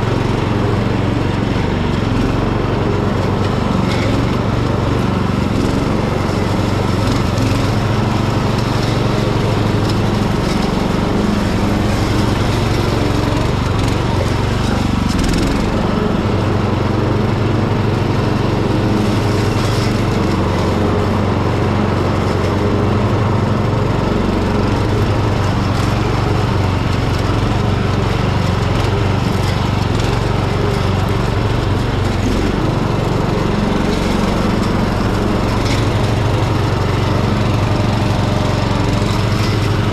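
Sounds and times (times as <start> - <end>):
mower deck cutting grass: 0.0 - 39.9
ride-on mower engine running: 0.0 - 39.9.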